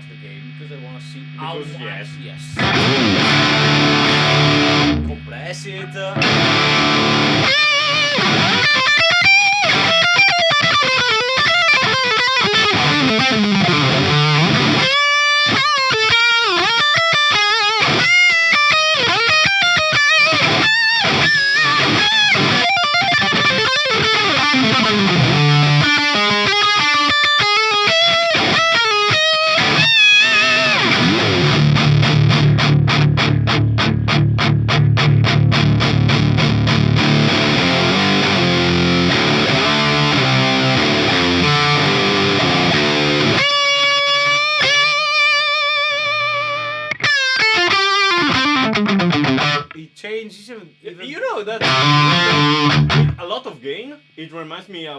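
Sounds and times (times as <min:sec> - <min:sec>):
distorted electric guitar licks: 0:00.0 - 0:49.9, 0:51.5 - 0:53.3.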